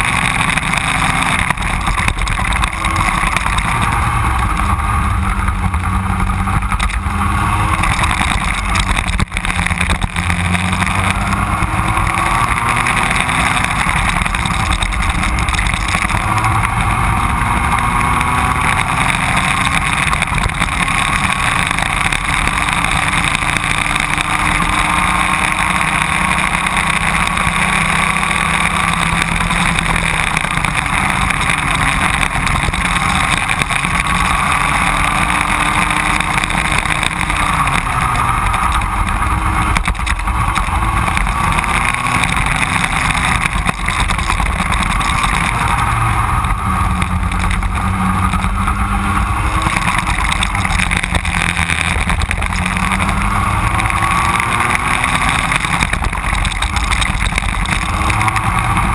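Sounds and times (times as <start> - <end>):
kart engine revving: 0.0 - 58.9.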